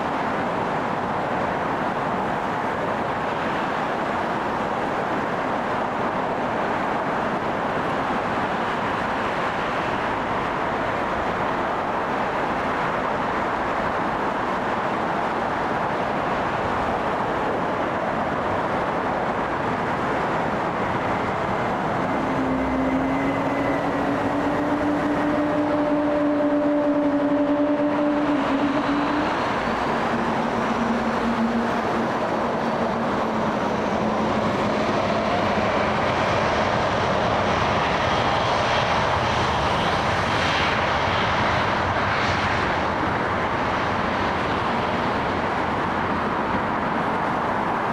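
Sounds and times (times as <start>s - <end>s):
airliner engine roar: 0.0s - 47.9s.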